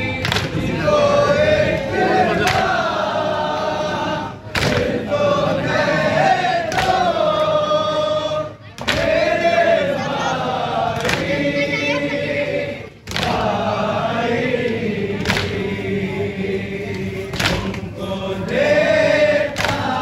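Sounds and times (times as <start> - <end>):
men reciting in unison: 0.0 - 20.0.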